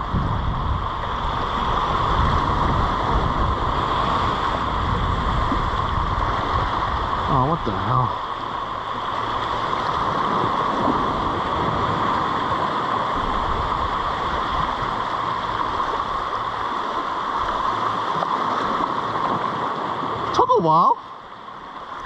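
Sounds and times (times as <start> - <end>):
wind noise: 0.0 - 8.2, 8.8 - 20.4
sea water washing over rocks: 0.0 - 22.0.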